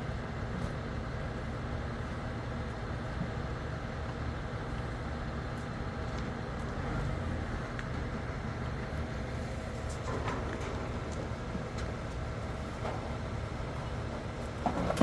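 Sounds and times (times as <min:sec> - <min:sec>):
crane truck engine rumbling: 0:00.0 - 0:15.0.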